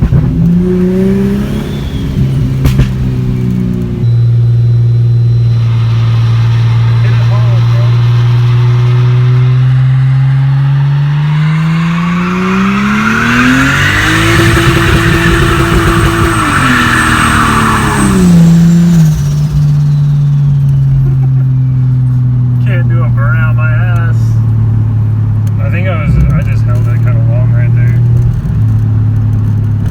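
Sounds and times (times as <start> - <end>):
car engine running and revving: 0.0 - 29.9.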